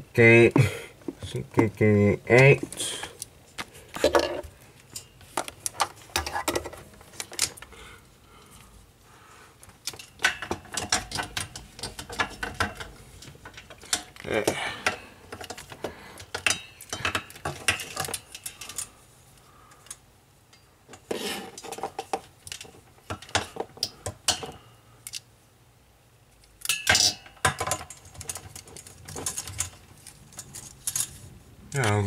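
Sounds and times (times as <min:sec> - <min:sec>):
cables rustling and clicking: 0:01.0 - 0:08.8, 0:09.5 - 0:25.3, 0:26.3 - 0:32.0.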